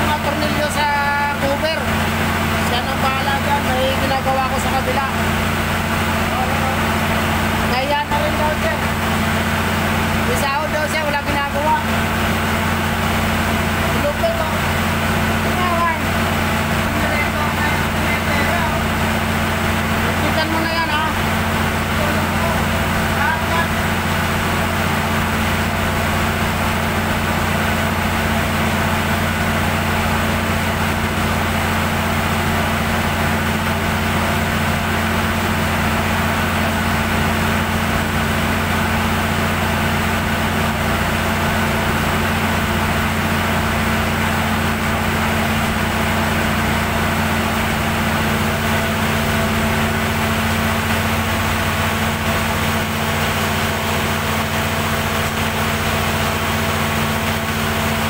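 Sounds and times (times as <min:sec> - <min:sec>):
diesel generator humming: 0:00.0 - 0:58.0.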